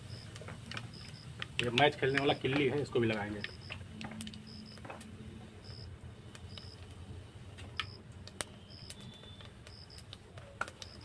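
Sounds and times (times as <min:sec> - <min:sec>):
seeds sizzling in hot oil: 0:00.0 - 0:04.8, 0:05.5 - 0:11.0
crackles and pops: 0:00.0 - 0:11.0.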